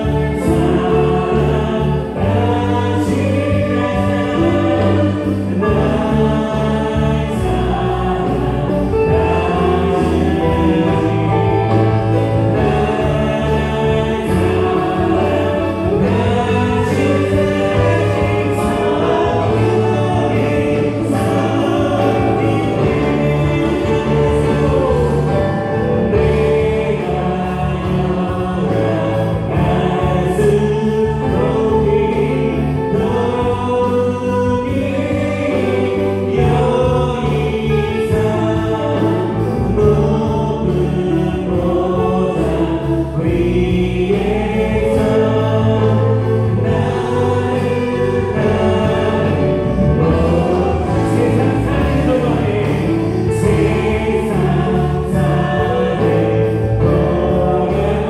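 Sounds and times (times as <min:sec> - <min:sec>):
electric bass guitar: 0:00.0 - 0:58.0
group singing in chorus: 0:00.0 - 0:58.0
keyboard: 0:00.0 - 0:58.0.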